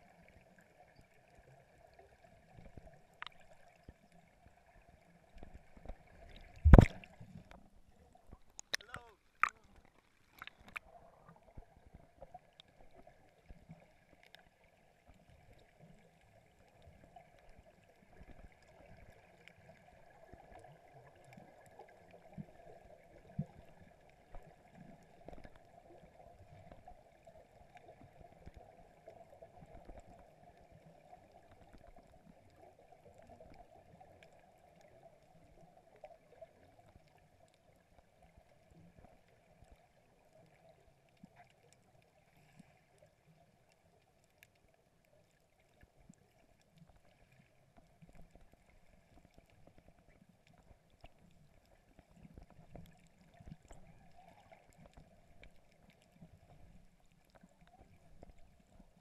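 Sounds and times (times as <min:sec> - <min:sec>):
small clicks and bubbling: 0:00.0 - 0:59.0
underwater low hum: 0:00.0 - 0:59.0.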